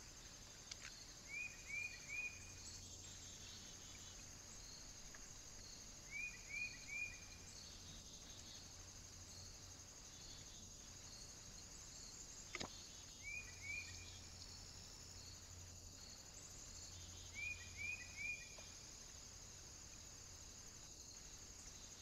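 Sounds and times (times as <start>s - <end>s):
faint high hiss: 0.0s - 22.0s.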